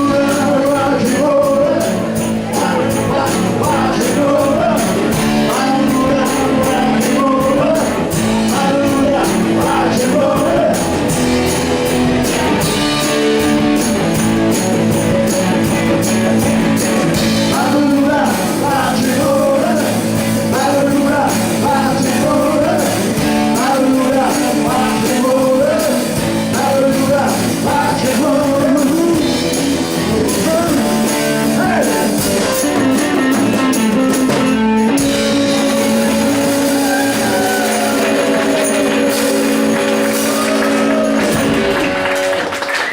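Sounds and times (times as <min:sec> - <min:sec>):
person singing: 0:00.0 - 0:14.0, 0:16.9 - 0:42.4
drum beat: 0:00.0 - 0:42.4
guitar: 0:00.0 - 0:42.9.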